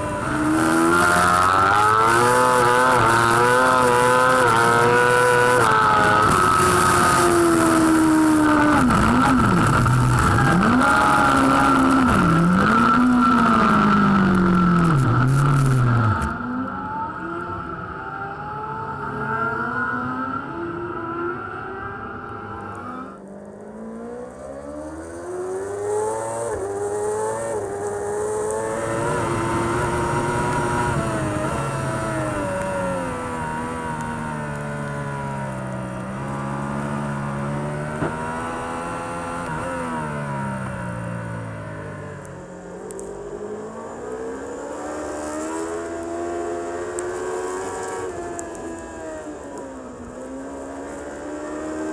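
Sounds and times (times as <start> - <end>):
motorcycle engine revving: 0.0 - 17.4, 18.2 - 51.9.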